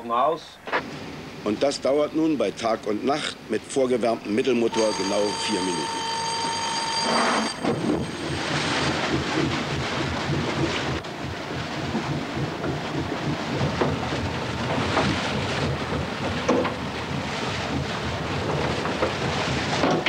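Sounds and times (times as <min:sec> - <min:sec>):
ship diesel engines rumbling: 0:00.5 - 0:20.0.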